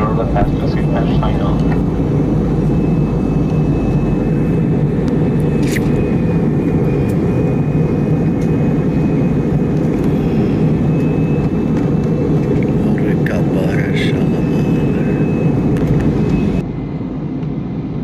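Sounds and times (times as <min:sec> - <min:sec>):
airliner engine roar in cabin: 0:00.0 - 0:18.0.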